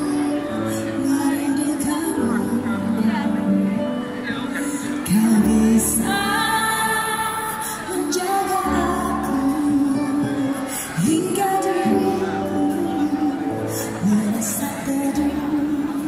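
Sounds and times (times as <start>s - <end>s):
woman singing into microphone: 0.0s - 16.0s.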